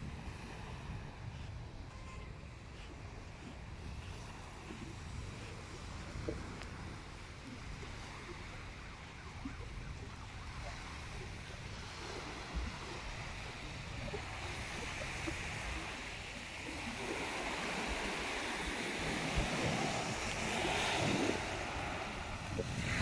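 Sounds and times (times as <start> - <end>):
small waves washing onto sand: 0.0 - 23.0
wind rumble on microphone: 0.0 - 23.0.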